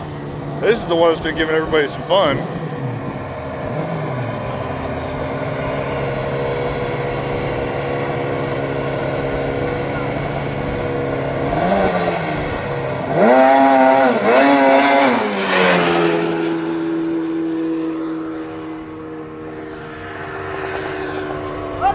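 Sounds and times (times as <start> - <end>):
lawn mower engines revving: 0.0 - 21.9.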